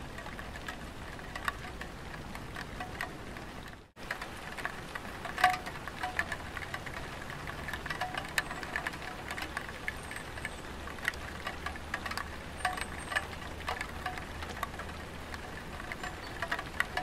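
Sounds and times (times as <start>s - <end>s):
rain drops tapping on roof: 0.0s - 17.0s.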